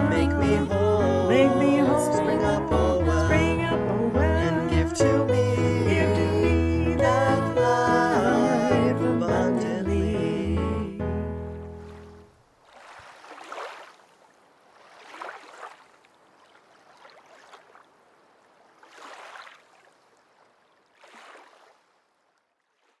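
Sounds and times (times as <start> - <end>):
faint rushing water: 0.0 - 22.0.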